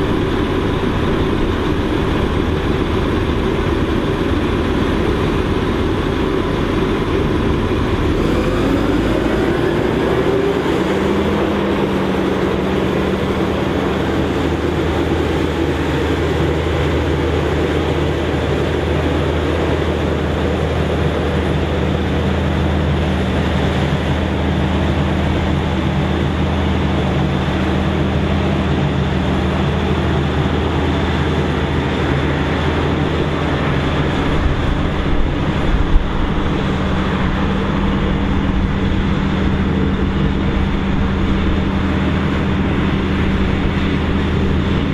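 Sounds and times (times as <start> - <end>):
forage harvester engine and chopping: 0.0 - 44.9.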